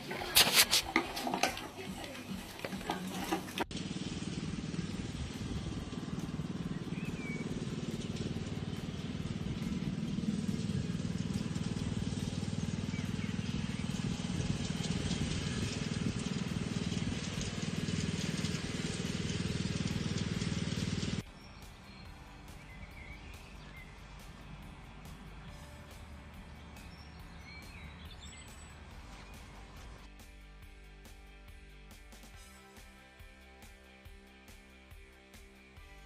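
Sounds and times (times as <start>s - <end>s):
lawnmower engine running: 0.0s - 30.1s.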